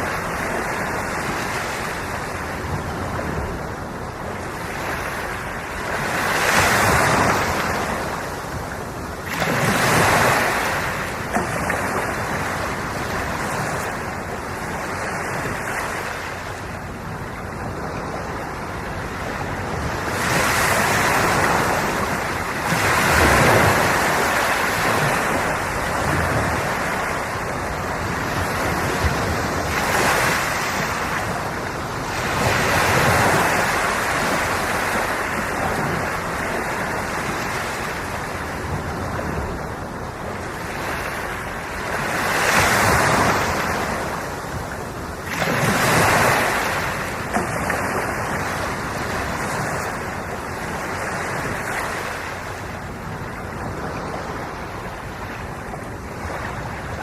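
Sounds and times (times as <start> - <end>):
ocean waves breaking: 0.0 - 57.0
wind buffeting microphone: 0.0 - 57.0.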